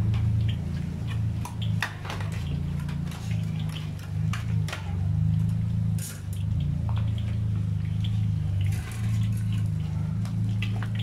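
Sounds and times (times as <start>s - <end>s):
food deep-frying in oil: 0.0s - 11.0s
oil crackling and popping: 0.0s - 11.0s
steady low hum: 0.0s - 11.0s.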